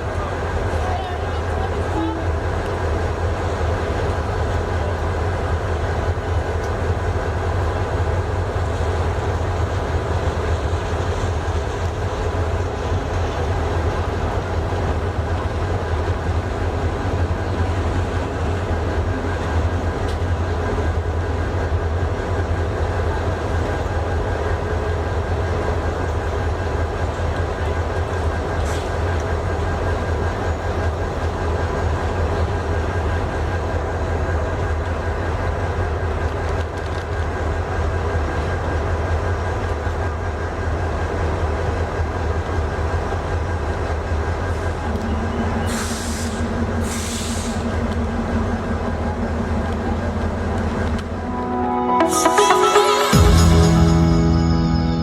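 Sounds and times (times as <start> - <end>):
train rumbling into station: 0.0 - 55.0.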